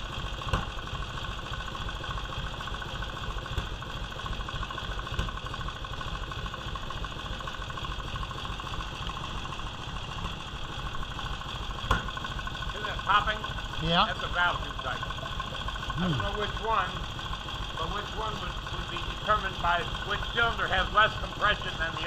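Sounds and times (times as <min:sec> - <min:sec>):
engine popping: 0:00.0 - 0:22.0
motorcycle engine idling: 0:00.0 - 0:22.0.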